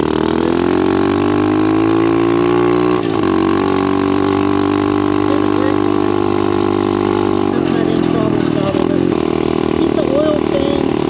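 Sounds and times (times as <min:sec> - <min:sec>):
pit bike engine running: 0:00.0 - 0:11.0.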